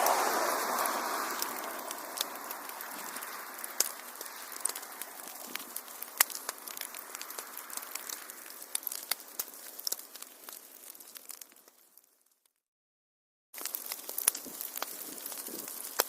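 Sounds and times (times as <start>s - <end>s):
wood fire crackling: 0.0s - 12.5s, 13.6s - 16.0s.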